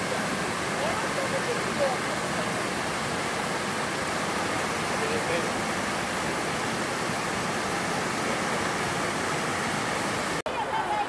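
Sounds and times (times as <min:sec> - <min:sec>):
waterfall cascading over rocks: 0:00.0 - 0:11.0.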